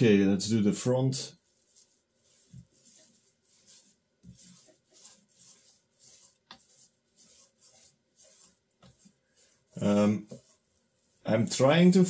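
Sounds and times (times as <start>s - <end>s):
paint roller swishing on wood: 0.0s - 12.0s.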